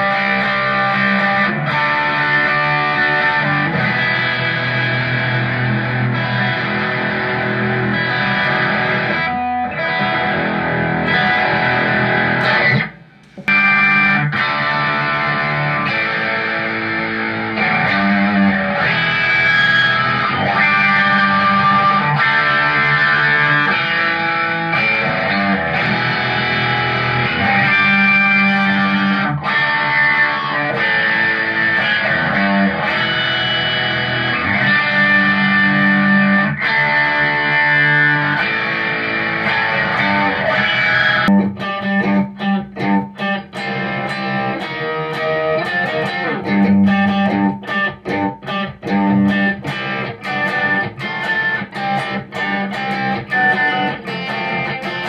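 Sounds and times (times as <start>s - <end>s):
distorted electric guitar chords: 0.0s - 55.0s.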